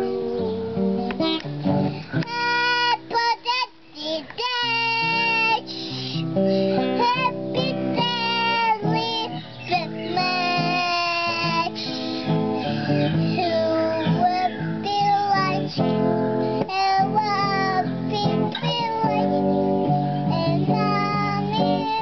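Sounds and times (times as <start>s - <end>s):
acoustic guitar: 0.0s - 22.0s
girl singing: 0.0s - 22.0s.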